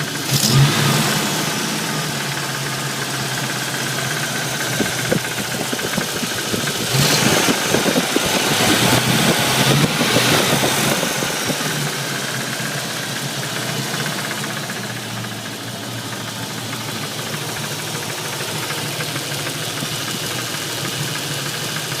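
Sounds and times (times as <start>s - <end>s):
engine idling with rapid knocking: 0.0s - 22.0s.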